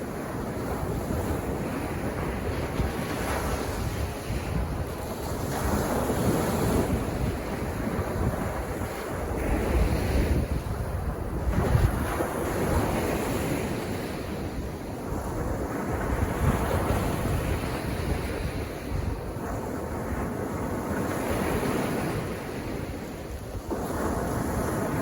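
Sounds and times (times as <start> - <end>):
sea waves breaking on beach: 0.0 - 25.0
wind rumbling on microphone: 0.0 - 25.0.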